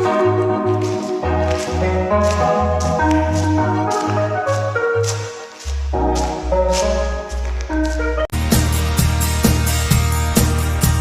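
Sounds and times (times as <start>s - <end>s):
background music with bass and beats: 0.0s - 11.0s.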